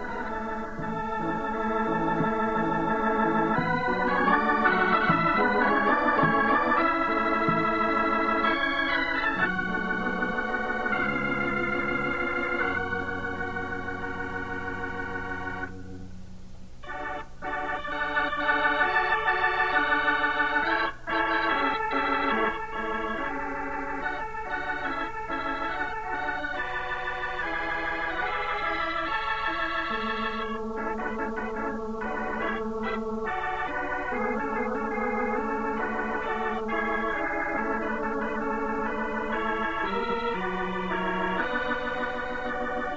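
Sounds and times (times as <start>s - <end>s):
organ music: 0.0s - 42.9s.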